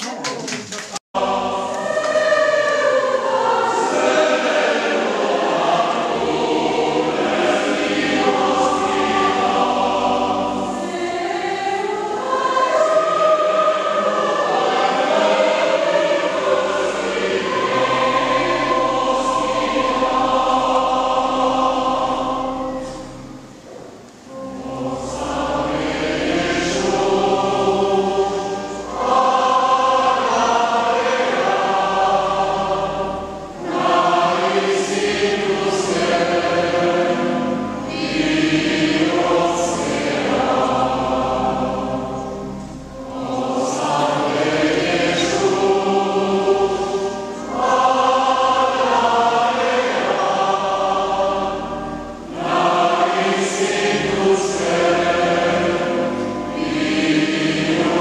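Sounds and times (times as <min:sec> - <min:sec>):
choir singing: 0:01.0 - 0:58.0.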